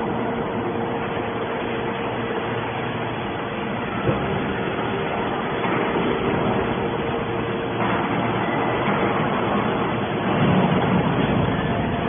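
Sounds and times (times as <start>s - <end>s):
baler mechanical drone: 0.0s - 12.0s
faint constant hum: 0.0s - 12.0s.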